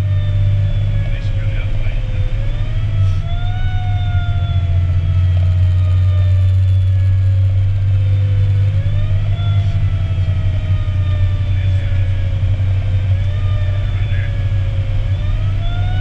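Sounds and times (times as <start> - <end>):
fire engine driving: 0.0 - 16.0
road noise: 0.0 - 16.0.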